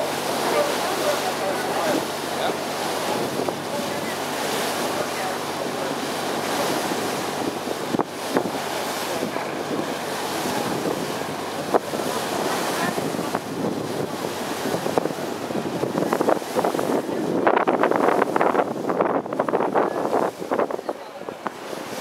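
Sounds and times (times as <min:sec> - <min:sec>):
water splashing along boat hull: 0:00.0 - 0:22.0
wind buffeting microphone: 0:00.0 - 0:22.0.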